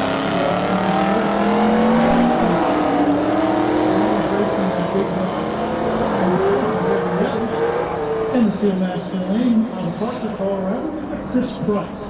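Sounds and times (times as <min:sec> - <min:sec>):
drag racing cars accelerating: 0:00.0 - 0:12.0.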